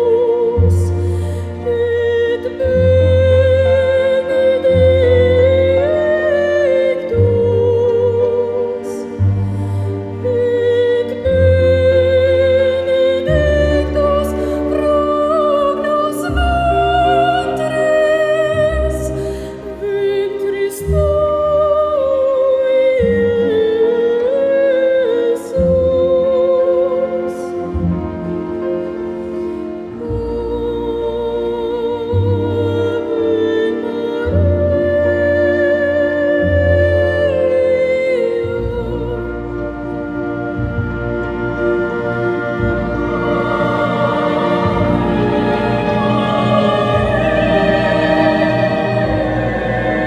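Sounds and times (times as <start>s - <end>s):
woman singing opera: 0.0s - 27.7s, 29.9s - 50.0s
symphony orchestra: 0.0s - 50.0s.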